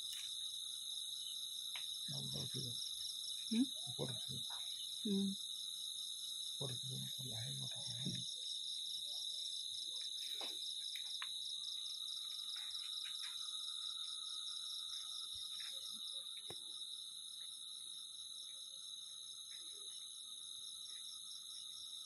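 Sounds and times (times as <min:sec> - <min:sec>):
crickets trilling: 0:00.0 - 0:22.0
low steady insect trill: 0:00.0 - 0:22.0.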